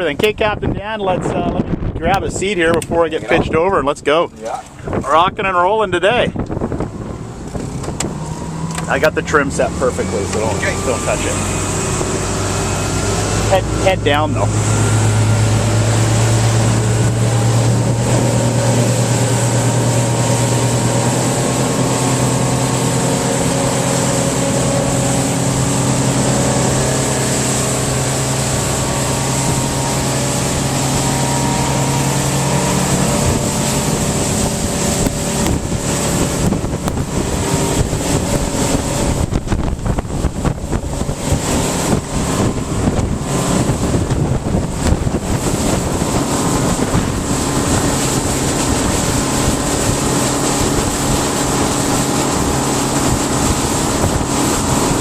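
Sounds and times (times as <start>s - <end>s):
boat engine running: 0.0s - 55.0s
rush of wind and water: 0.0s - 55.0s
wind buffeting microphone: 0.0s - 55.0s.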